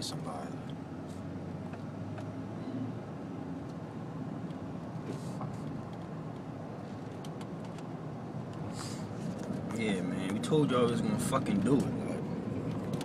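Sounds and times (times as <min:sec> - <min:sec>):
car engine from inside cabin: 0:00.0 - 0:13.0
road noise: 0:00.0 - 0:13.0.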